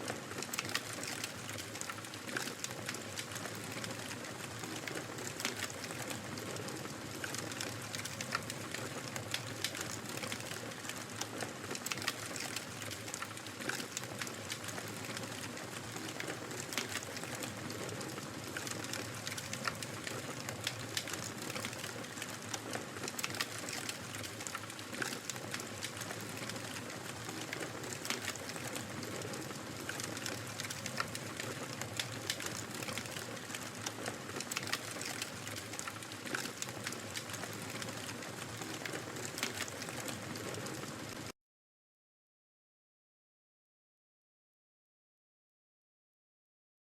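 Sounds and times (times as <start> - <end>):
wood fire crackling: 0.1 - 41.2.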